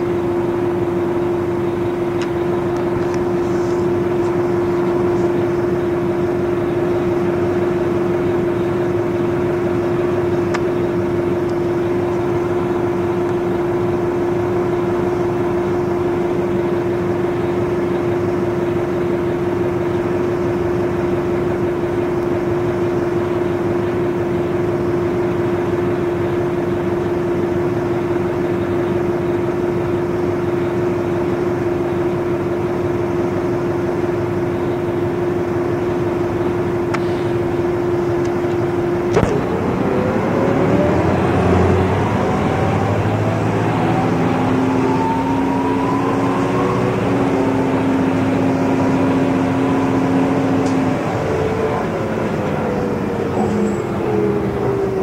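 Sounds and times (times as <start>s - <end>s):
diesel bus engine humming: 0.0s - 55.0s.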